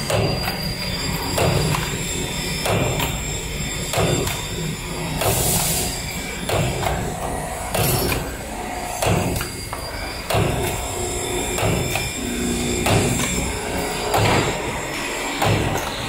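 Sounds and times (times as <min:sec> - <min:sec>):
machine whirring: 0:00.0 - 0:16.0.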